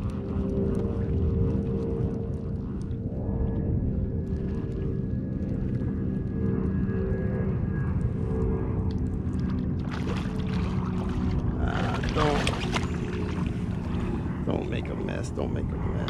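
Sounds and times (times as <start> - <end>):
low rumble of kayak moving: 0.0 - 16.0.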